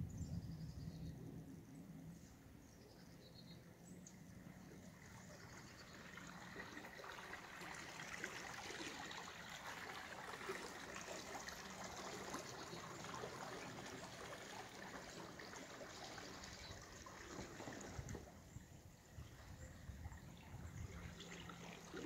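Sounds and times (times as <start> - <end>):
small waves lapping against dock: 3.9 - 22.0.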